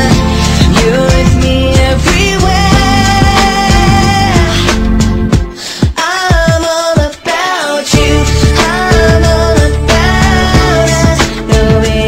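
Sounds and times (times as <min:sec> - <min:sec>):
pop love song: 0:00.0 - 0:12.0.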